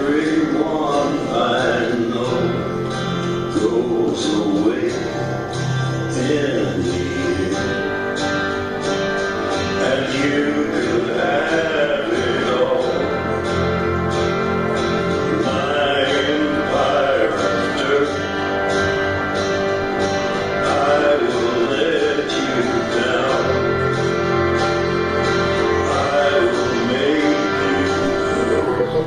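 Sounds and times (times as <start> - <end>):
strummed acoustic string instrument: 0.0 - 29.0.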